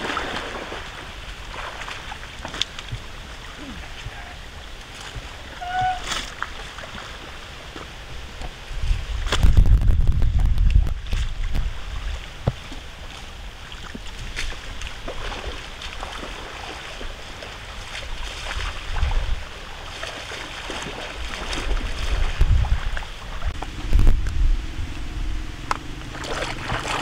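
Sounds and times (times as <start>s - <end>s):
water splashing and sloshing: 0.0s - 27.0s
wind rumble on microphone: 0.0s - 27.0s.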